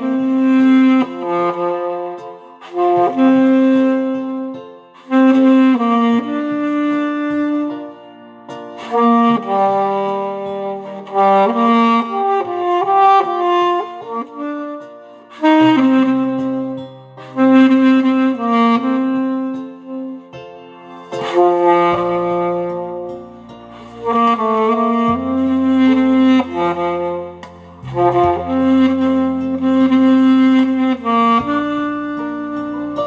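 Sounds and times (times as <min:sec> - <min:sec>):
alto saxophone melody: 0:00.0 - 0:33.0
backing accompaniment with bass: 0:00.0 - 0:33.0.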